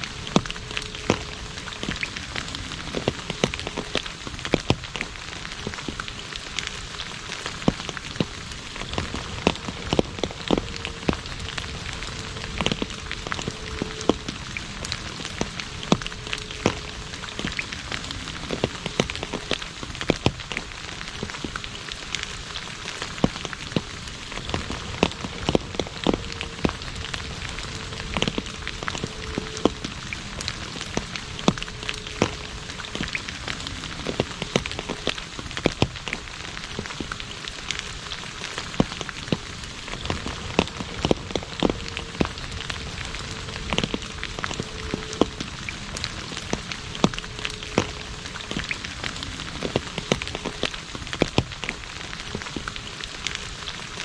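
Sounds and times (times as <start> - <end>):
rain pattering on asphalt: 0.0 - 54.0.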